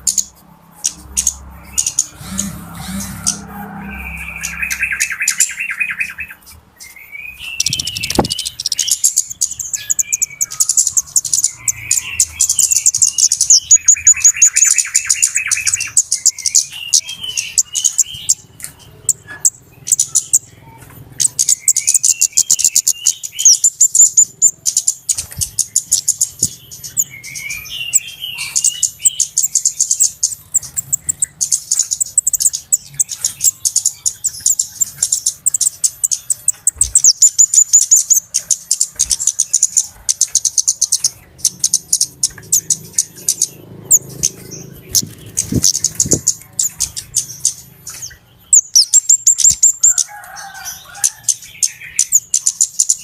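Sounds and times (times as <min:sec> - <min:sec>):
birds ticking trills: 0:00.0 - 0:53.0
birds twittering chirps: 0:00.0 - 0:53.0.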